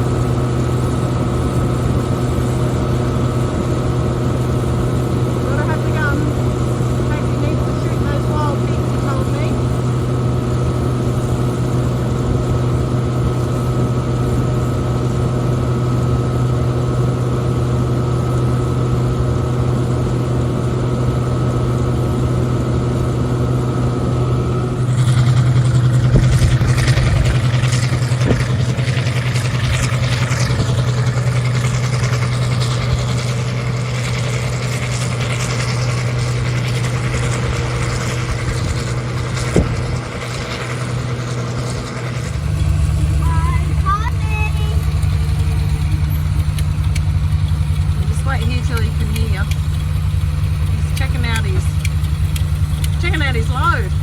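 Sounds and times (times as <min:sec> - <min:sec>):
heavy machine engine running: 0:00.0 - 0:54.0
rushing rattling mechanical noise: 0:00.0 - 0:54.0.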